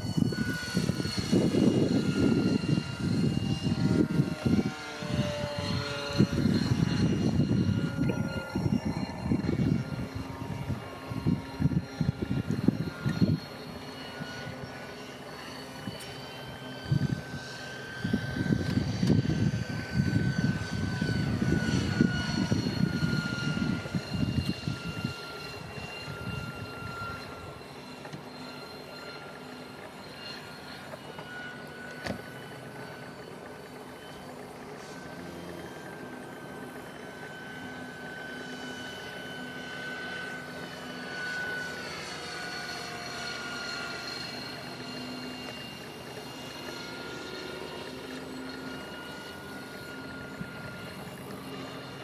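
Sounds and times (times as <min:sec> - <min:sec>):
model helicopter high-pitched whine: 0:00.0 - 0:52.0.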